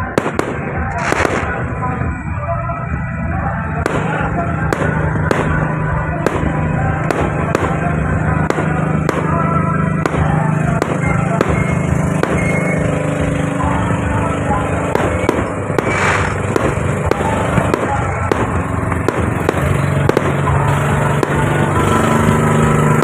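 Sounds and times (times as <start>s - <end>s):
fireworks bangs: 0.0s - 2.5s, 3.8s - 23.0s.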